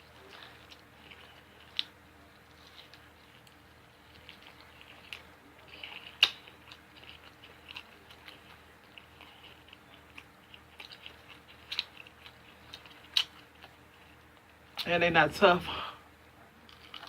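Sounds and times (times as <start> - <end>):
chewing and wet mouth noises: 0.0 - 14.9, 16.6 - 17.0.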